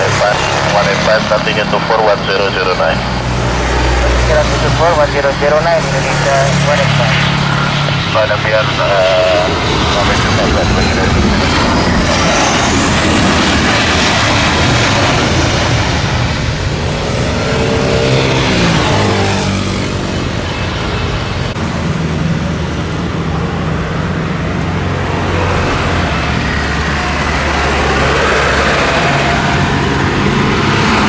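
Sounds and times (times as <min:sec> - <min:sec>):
jet engines passing: 0:00.0 - 0:31.0.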